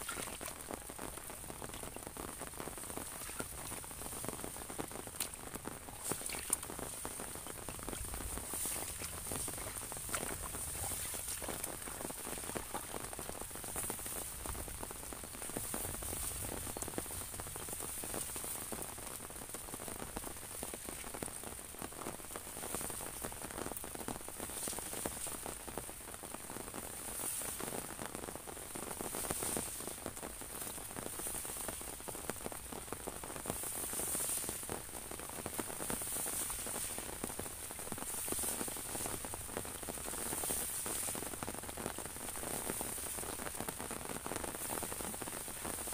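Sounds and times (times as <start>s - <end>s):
rain pattering on umbrella: 0.0s - 45.9s.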